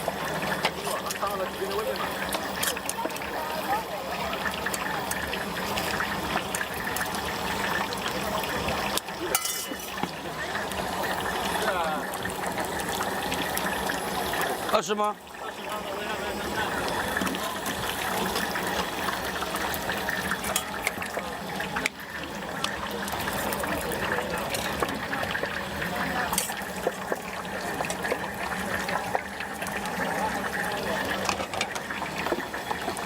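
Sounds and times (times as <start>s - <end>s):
food deep-frying in oil: 0.0s - 33.0s.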